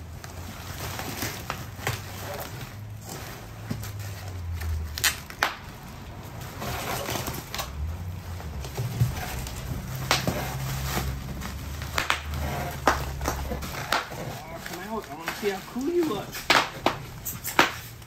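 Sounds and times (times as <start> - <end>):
packaging rustling: 0.0 - 18.0.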